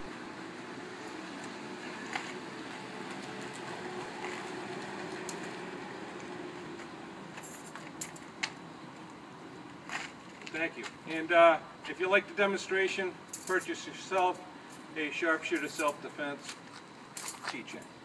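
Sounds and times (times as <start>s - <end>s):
outdoor background hum: 0.0s - 18.0s.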